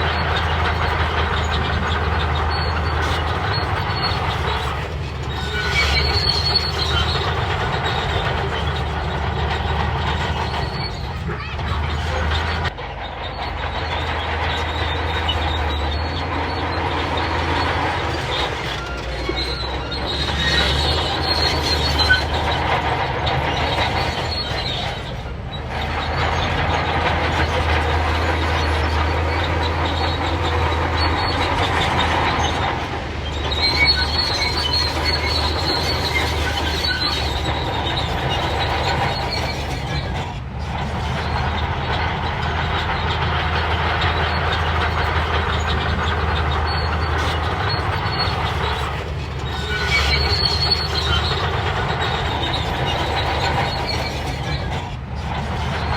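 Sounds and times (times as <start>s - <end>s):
diesel engine under load: 0.0s - 55.9s
steel tracks squealing and clattering: 0.0s - 55.9s.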